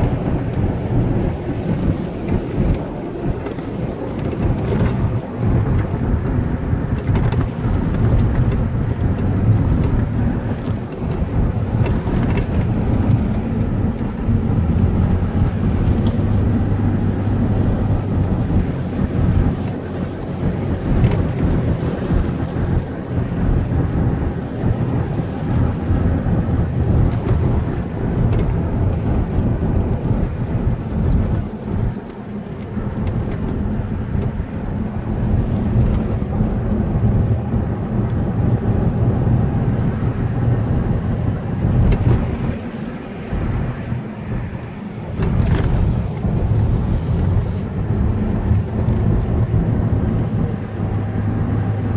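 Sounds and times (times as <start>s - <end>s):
car tyres and engine rumble: 0.0s - 51.9s.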